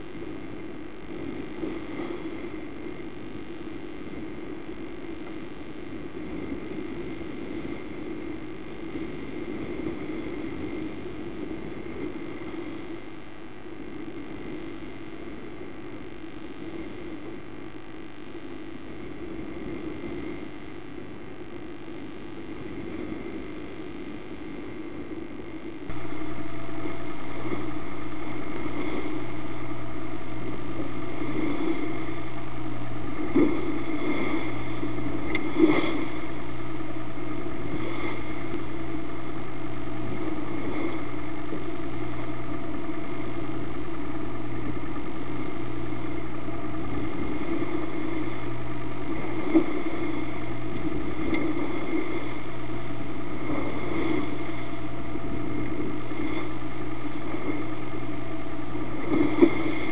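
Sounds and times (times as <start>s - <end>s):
yacht engine droning: 0.0s - 59.9s.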